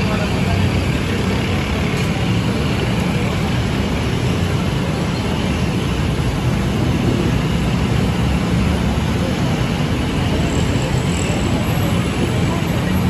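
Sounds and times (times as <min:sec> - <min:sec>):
faint hubbub of voices: 0:00.0 - 0:13.0
traffic rumble: 0:00.0 - 0:13.0.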